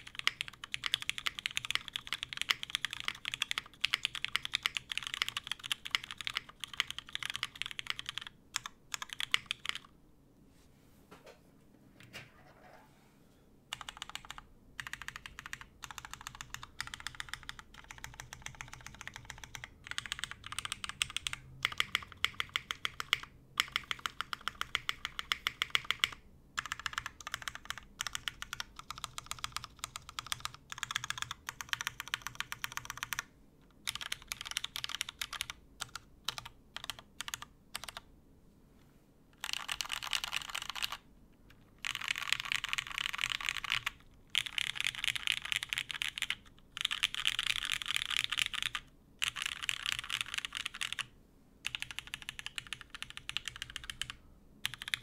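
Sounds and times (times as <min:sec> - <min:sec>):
mechanical keyboard typing: 0:00.0 - 0:09.9, 0:13.7 - 0:38.1, 0:39.4 - 0:55.0.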